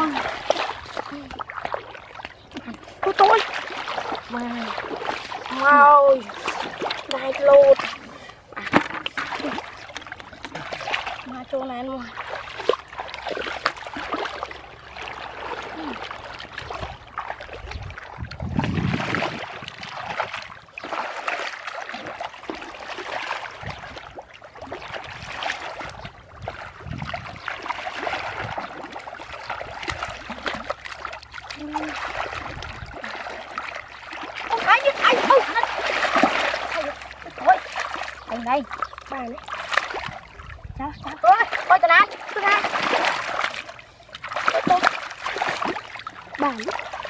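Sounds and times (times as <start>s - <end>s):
muddy water sloshing and splashing: 0.0s - 47.0s.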